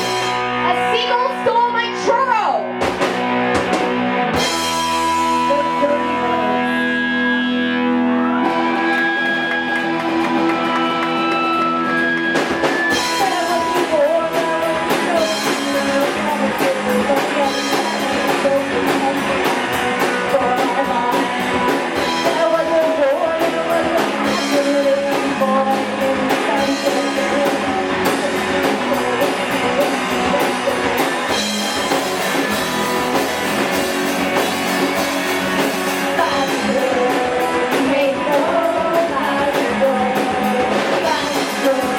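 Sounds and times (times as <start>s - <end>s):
drum kit beat: 0.0s - 5.9s, 8.3s - 41.9s
electric guitar: 0.0s - 41.9s
rock and roll band playing: 0.0s - 41.9s.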